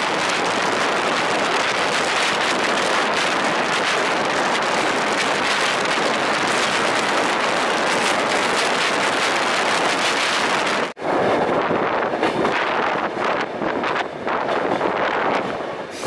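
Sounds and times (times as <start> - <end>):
train running noise: 0.0 - 16.0
wind rushing over microphone: 0.0 - 16.0.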